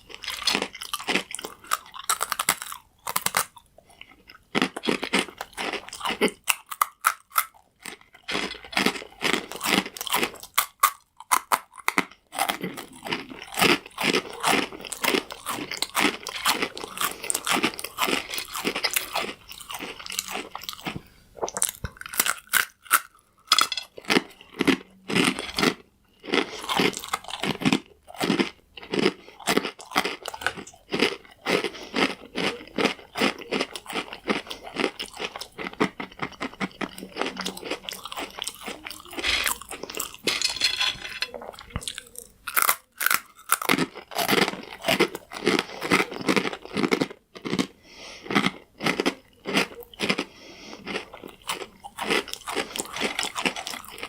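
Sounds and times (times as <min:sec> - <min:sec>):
chewing crunchy croutons: 0:00.0 - 0:54.0.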